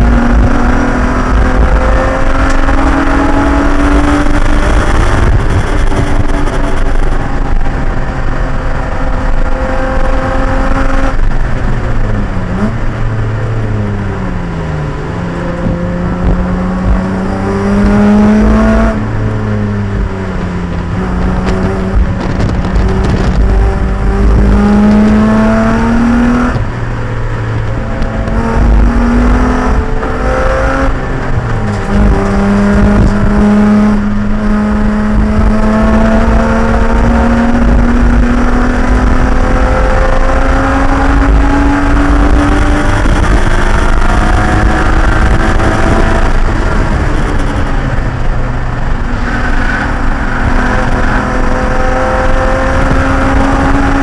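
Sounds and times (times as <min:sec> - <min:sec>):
racing car engine revving: 0:00.0 - 0:54.0
road and wind rumble: 0:00.0 - 0:54.0.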